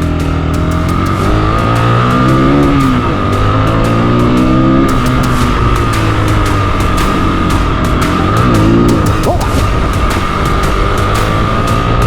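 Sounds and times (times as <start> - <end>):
motorcycle engine running: 0.0 - 12.0
rock music with drums and guitar: 0.0 - 12.0.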